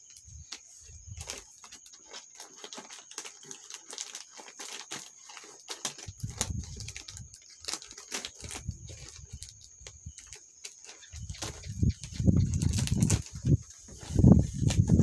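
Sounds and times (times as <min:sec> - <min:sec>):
plastic and cardboard rustling: 0:00.0 - 0:15.0.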